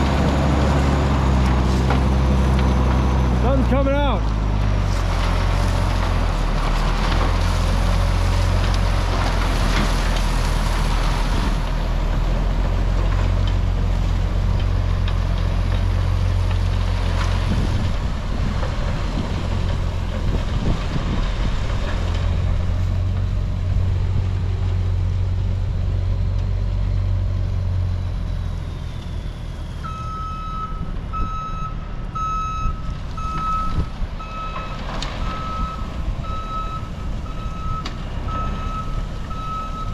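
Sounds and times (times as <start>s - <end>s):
heavy vehicle engine rumble: 0.0s - 39.9s.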